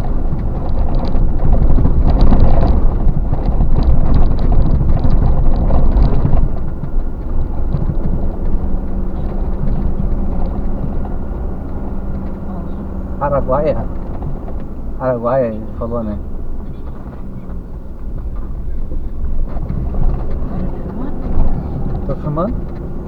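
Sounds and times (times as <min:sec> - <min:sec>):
vehicle rumbling and rattling: 0:00.0 - 0:23.0.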